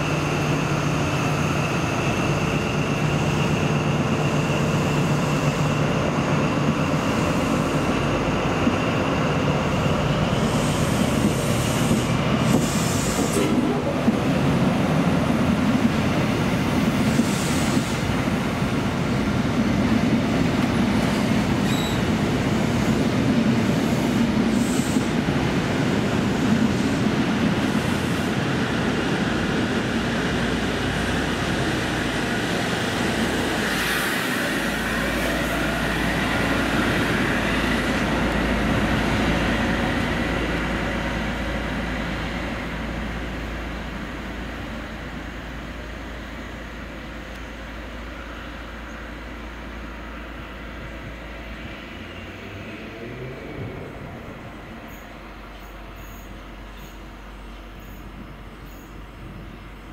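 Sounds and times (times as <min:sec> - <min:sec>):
train wheels rushing on rail: 0:00.0 - 0:59.9.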